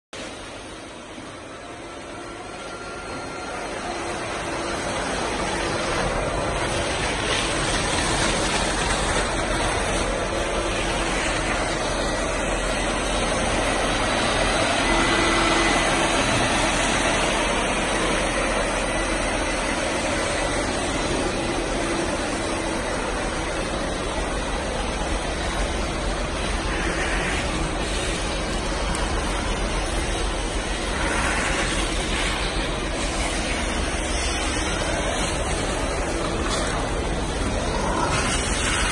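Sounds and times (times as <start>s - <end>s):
wet vacuum sucking water: 0.2s - 38.9s.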